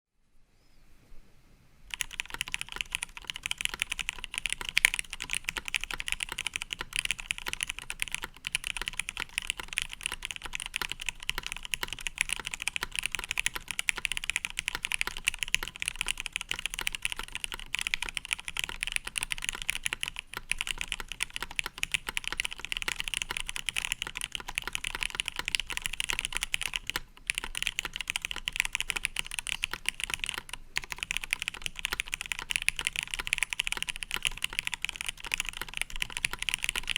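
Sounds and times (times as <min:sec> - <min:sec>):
mechanical keyboard typing: 0:01.9 - 0:36.9.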